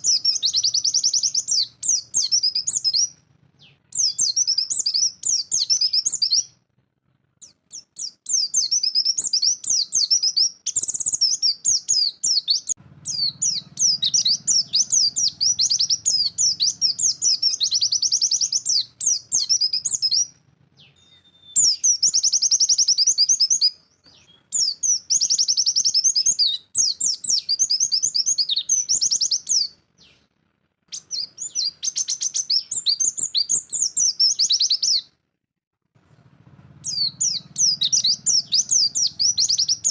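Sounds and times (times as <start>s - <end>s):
bird twittering song: 0.0s - 6.6s, 7.4s - 30.3s, 30.9s - 35.1s, 36.8s - 39.9s.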